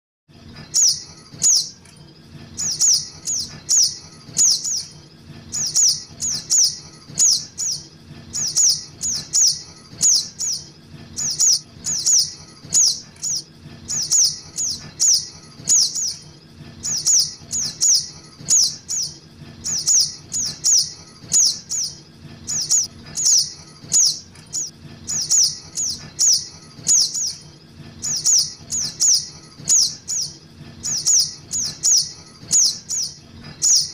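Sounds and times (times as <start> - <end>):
bird chirps sliding downward: 0.7 - 1.8, 2.6 - 4.9, 5.6 - 7.8, 8.4 - 16.2, 16.9 - 27.4, 28.0 - 33.9.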